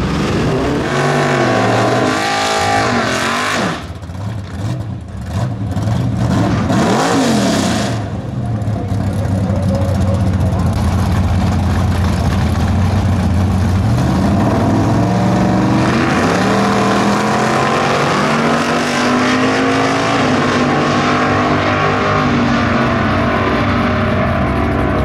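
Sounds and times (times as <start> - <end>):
cars launching at full throttle: 0.0 - 9.2, 13.4 - 25.0
drag car engines revving: 0.0 - 25.0.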